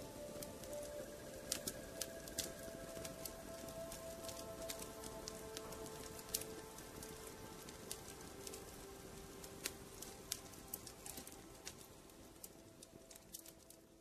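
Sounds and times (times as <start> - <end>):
soft background music: 0.0 - 14.0
sharp crackling clicks: 0.1 - 14.0.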